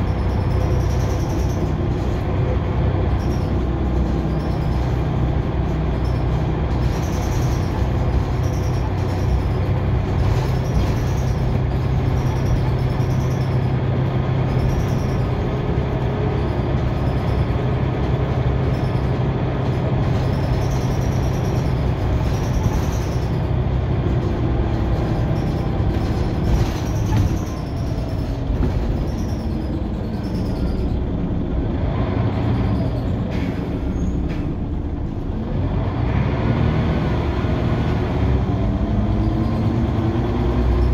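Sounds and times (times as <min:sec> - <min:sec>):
bus diesel engine droning: 0:00.0 - 0:40.9
road and body noise: 0:00.0 - 0:40.9.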